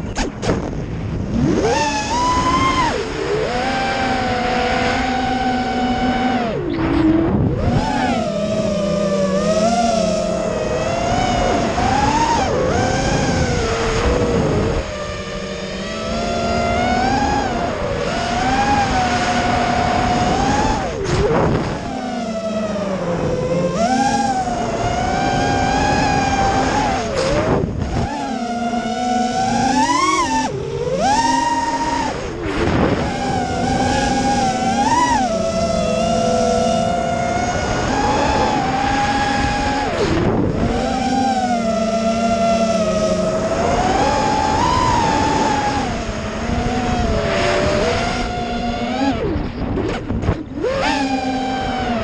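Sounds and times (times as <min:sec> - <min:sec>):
quadcopter motors whining: 0:00.0 - 0:52.0
wind rumble on microphone: 0:00.0 - 0:52.0.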